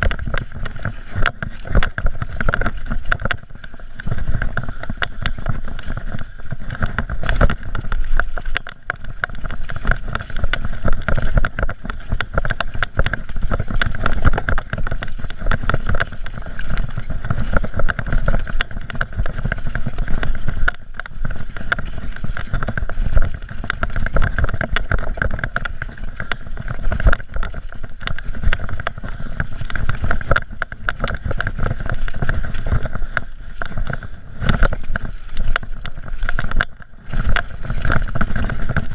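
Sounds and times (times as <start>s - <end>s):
bike rattling and knocking: 0.0s - 38.9s
bike tyres rumbling on dirt: 0.0s - 38.9s.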